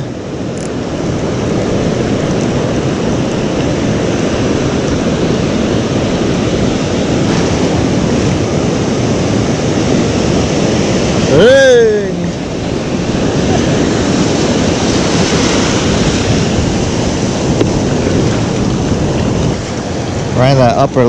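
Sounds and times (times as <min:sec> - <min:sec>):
wind on microphone: 0:00.0 - 0:11.4, 0:12.1 - 0:21.0
ocean surf washing in: 0:00.0 - 0:21.0.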